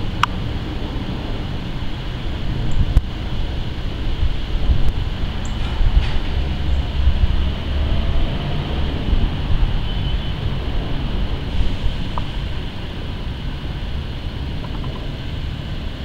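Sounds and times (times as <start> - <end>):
jet engines rumbling overhead: 0.0 - 16.0.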